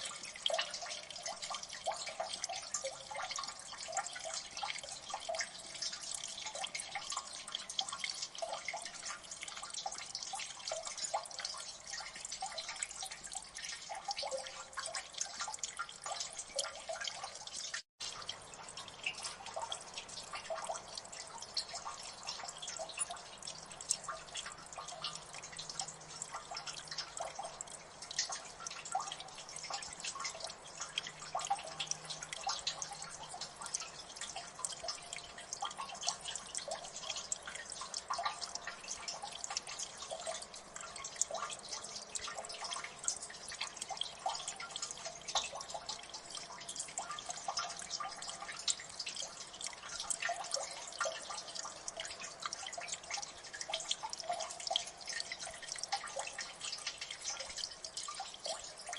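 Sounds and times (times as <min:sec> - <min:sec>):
water dripping: 0:00.0 - 0:58.9.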